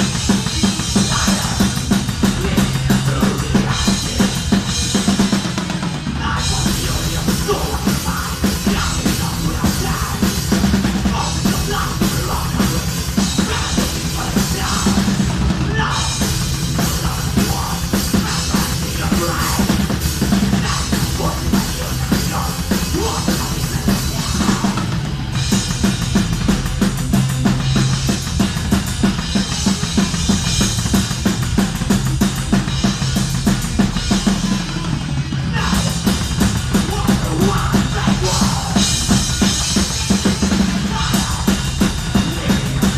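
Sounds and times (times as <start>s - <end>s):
drum kit pounding fast beat: 0.0s - 42.9s
heavy metal band playing live: 0.0s - 42.9s.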